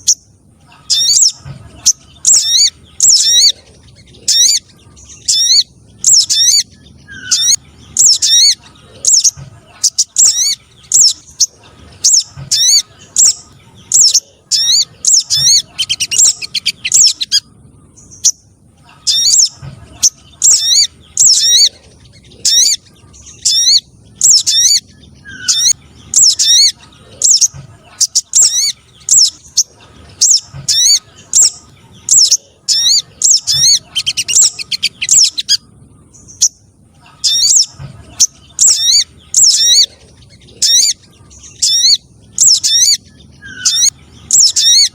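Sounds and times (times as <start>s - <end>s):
bird calling in downward chirps: 0.0s - 44.9s.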